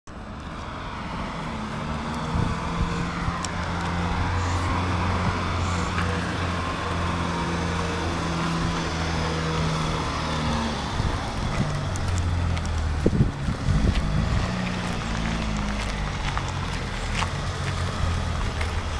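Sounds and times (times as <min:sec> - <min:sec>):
car engine at low revs: 0:00.2 - 0:18.9.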